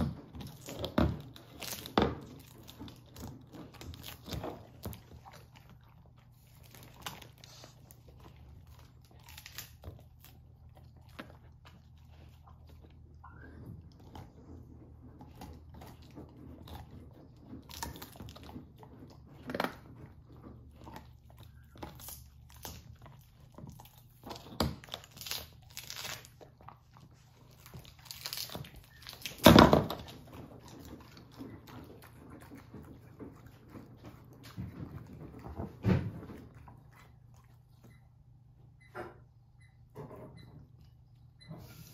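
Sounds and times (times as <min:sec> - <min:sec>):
puppy gnawing bone: 0:00.0 - 0:38.8.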